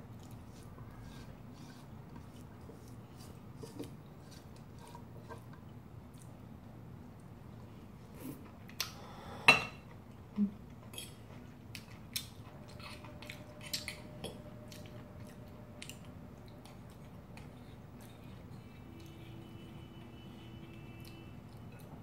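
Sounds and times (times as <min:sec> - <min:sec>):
soft chewing: 0:00.0 - 0:09.0, 0:09.8 - 0:22.0.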